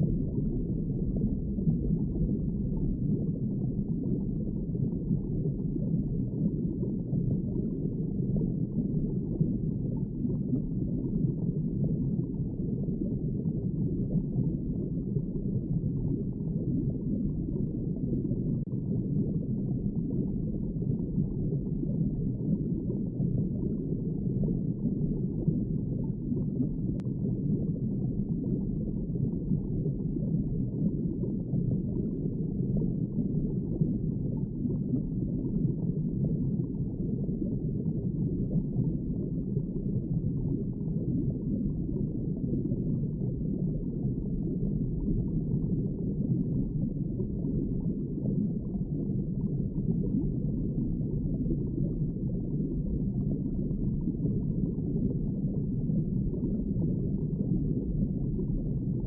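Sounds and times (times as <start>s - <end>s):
muffled underwater water noise: 0.0s - 59.0s.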